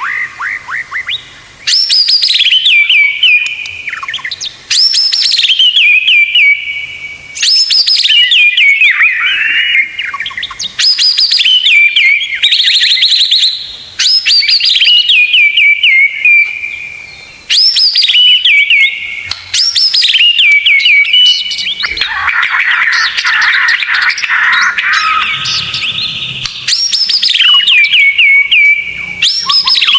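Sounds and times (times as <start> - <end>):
bird song with high whistle: 0.0 - 22.1, 22.7 - 29.9
harsh rattling bird call: 0.0 - 29.9.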